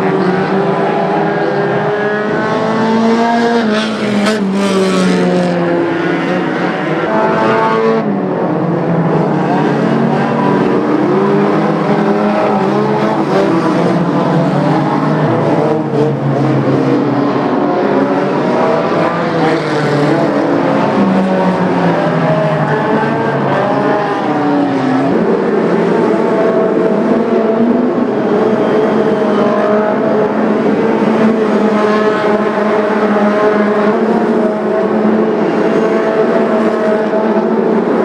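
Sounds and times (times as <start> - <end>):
racing car engines revving: 0.0 - 38.0.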